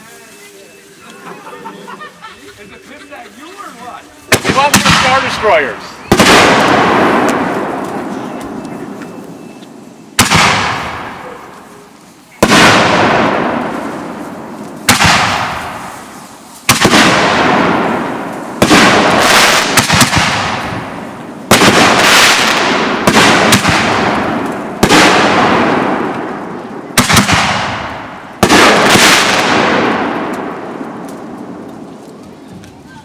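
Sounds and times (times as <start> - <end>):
crackle and hiss of fireworks: 0.0 - 33.0
fireworks bursting: 0.9 - 33.0
cluster of firework pops: 4.3 - 11.6, 12.3 - 32.9.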